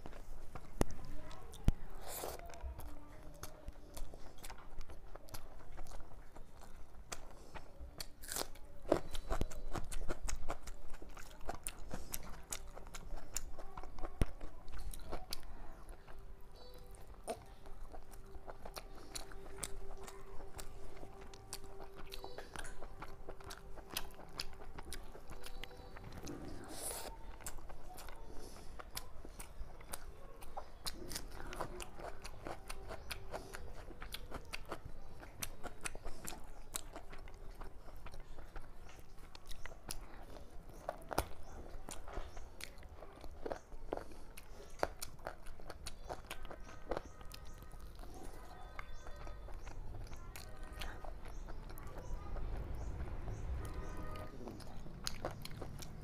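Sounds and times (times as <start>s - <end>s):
person chewing and smacking: 0.0s - 56.0s.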